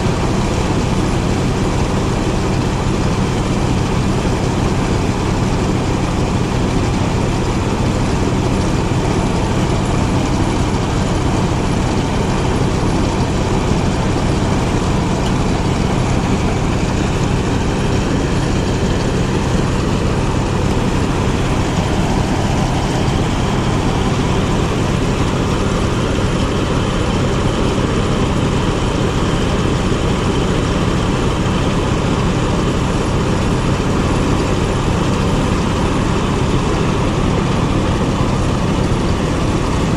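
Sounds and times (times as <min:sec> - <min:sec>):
engine droning: 0:00.0 - 0:39.9
threshing drum and blower rushing: 0:00.0 - 0:39.9.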